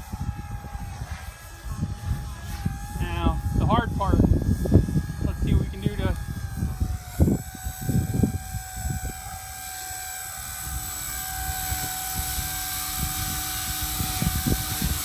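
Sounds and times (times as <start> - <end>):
rc helicopter motor whine: 0.0 - 15.0
wind buffeting microphone: 0.0 - 15.0.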